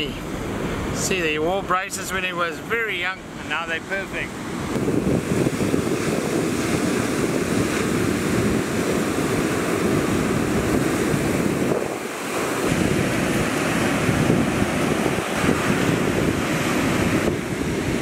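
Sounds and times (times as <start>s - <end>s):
wind buffeting microphone: 0.0s - 18.0s
surf breaking on beach: 3.4s - 18.0s.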